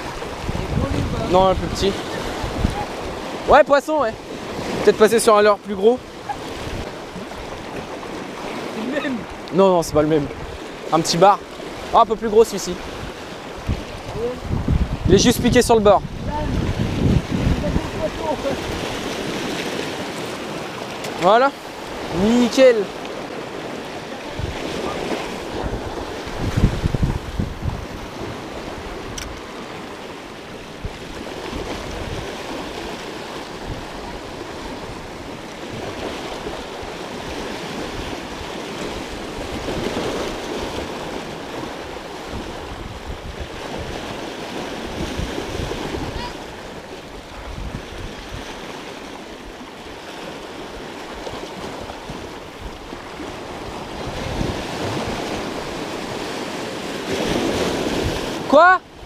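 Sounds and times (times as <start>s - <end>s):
wind buffeting microphone: 0.0s - 4.9s, 5.7s - 59.0s
sea waves breaking over rocks: 0.0s - 59.0s.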